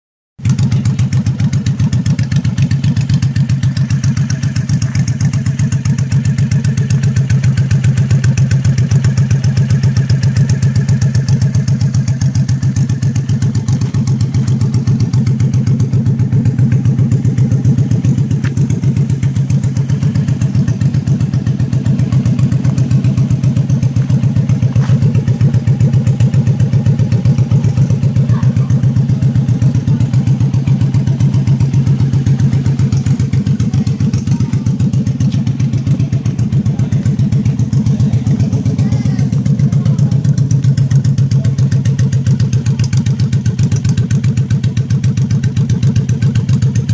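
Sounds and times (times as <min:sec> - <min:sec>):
motorcycle engine idling: 0:00.4 - 0:46.9.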